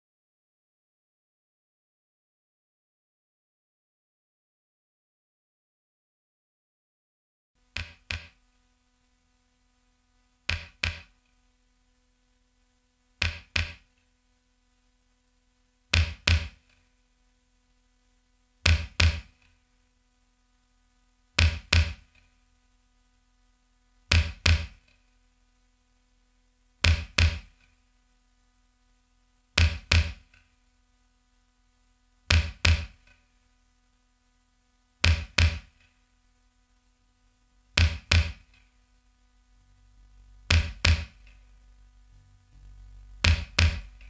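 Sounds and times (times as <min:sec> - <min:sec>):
faint electrical hum: 0:07.6 - 0:44.0.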